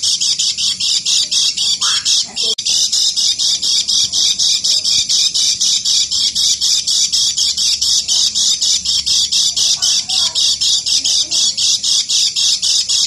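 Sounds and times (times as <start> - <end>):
bird's harsh rasping chatter: 0.0 - 13.0.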